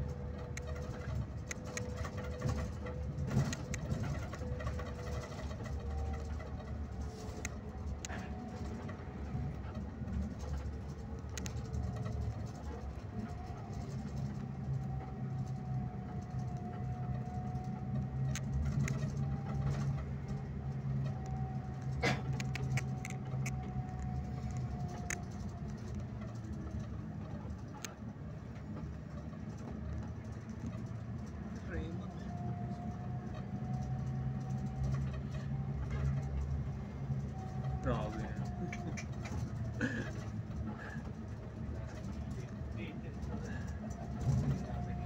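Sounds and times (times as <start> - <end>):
coach engine drone: 0.0 - 45.0.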